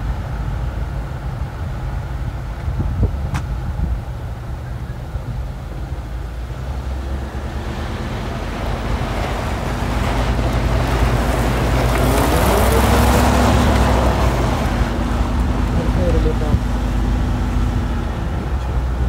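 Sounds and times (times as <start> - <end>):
tyre and wind noise: 0.0 - 19.0
vehicle engine running: 0.0 - 19.0.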